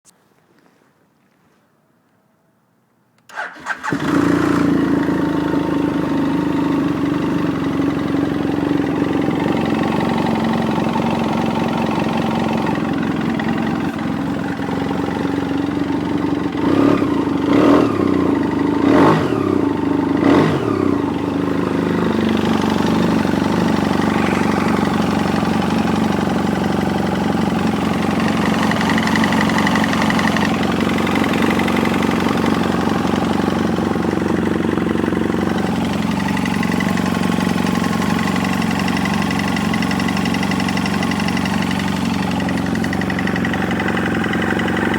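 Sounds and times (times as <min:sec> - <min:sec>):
motorcycle engine starting and idling: 0:03.2 - 0:44.9.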